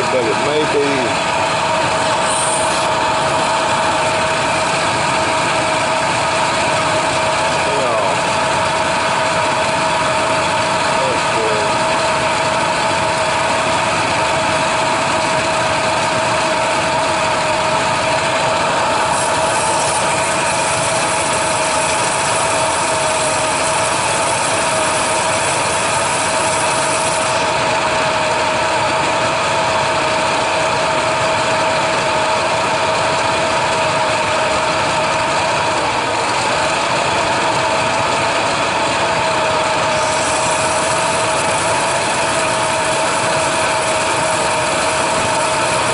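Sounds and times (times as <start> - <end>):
steady mechanical hum: 0.0 - 45.9.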